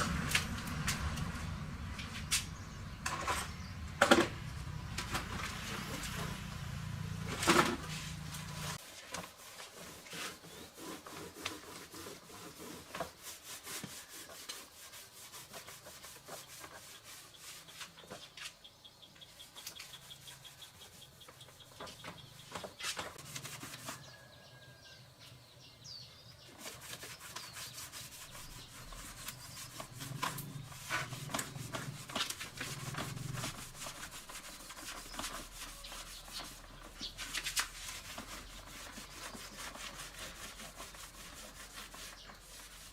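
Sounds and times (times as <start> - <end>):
hand rubbing and scraping: 0.0 - 18.6, 19.3 - 24.4, 26.5 - 42.9.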